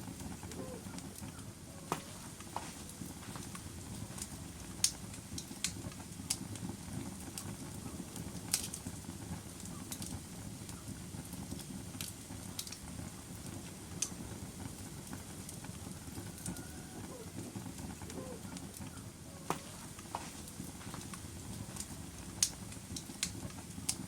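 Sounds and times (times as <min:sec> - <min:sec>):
fire crackling and popping: 0:00.0 - 0:24.0
log fire rumbling: 0:00.0 - 0:24.0.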